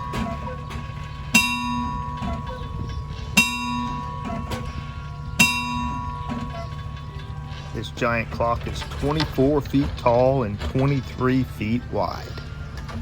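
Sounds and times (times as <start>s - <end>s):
clock bell striking: 0.0s - 13.0s
steady low hum: 0.0s - 13.0s.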